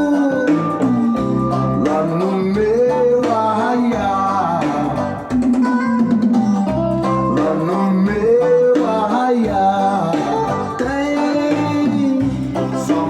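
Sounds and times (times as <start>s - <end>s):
plucked guitar: 0.0s - 13.0s
reggae music: 0.0s - 13.0s
steady bass line: 0.0s - 13.0s.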